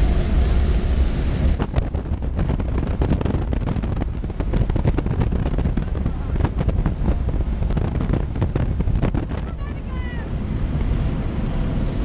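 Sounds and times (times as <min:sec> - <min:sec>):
rush of air: 0:00.0 - 0:09.6, 0:10.3 - 0:12.0
plane engine drone: 0:00.0 - 0:12.0
wind buffeting microphone: 0:00.0 - 0:12.0.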